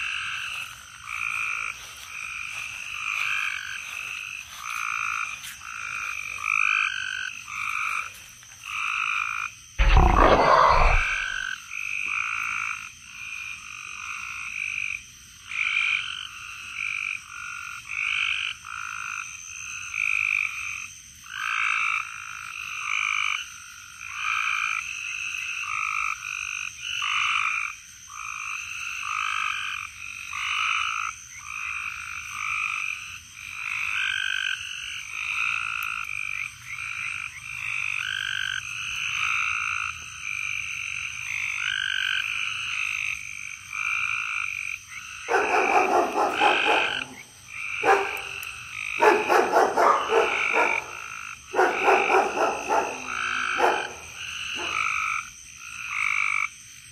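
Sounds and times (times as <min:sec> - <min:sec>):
chorus of frogs calling: 0:00.0 - 0:56.9
loud rough frog call close by: 0:04.8 - 0:56.6.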